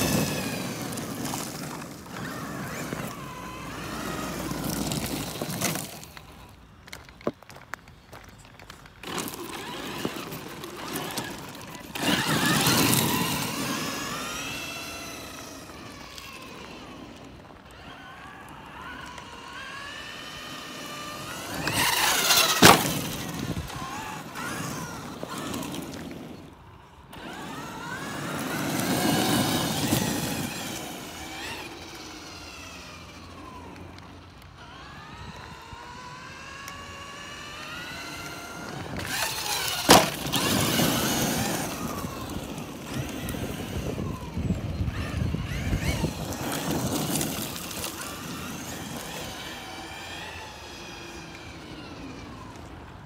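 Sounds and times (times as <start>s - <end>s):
toy truck motor whining: 0.0s - 7.6s, 8.6s - 53.0s
tyres on gravel: 0.0s - 53.0s.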